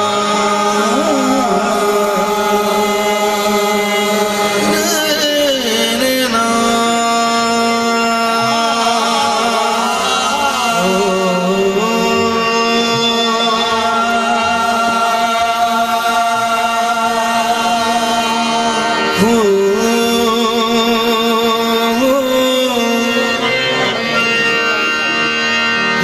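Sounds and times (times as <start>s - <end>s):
singers holding gliding notes: 0.0s - 26.0s.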